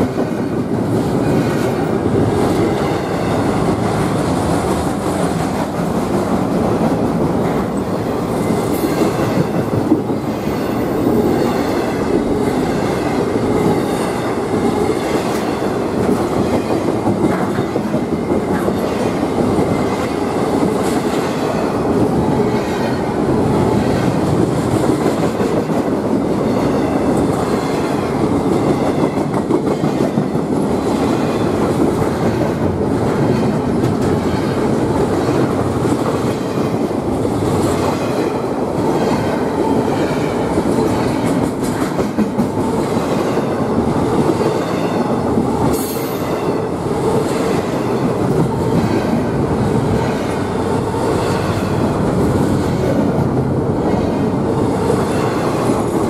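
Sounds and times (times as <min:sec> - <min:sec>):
clickety-clack over rail joints: 0:00.0 - 0:56.0
freight train wheels rumbling: 0:00.0 - 0:56.0.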